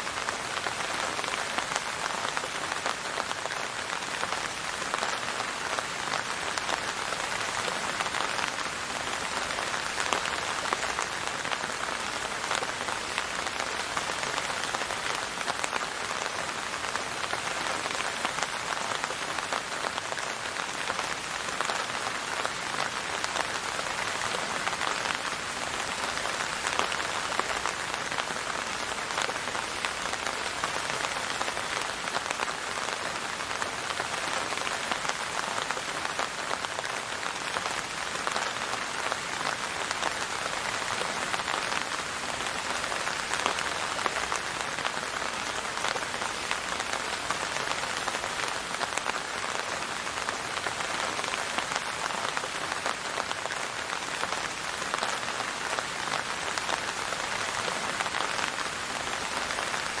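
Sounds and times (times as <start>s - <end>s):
rain on a hard surface: 0.0s - 60.0s.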